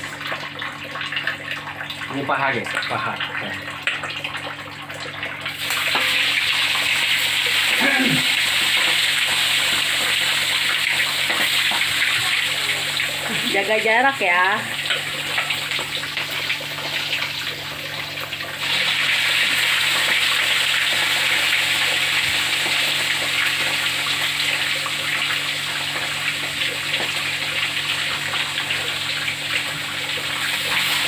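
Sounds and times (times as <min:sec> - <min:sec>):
meat deep-frying in hot oil: 0:00.0 - 0:31.0.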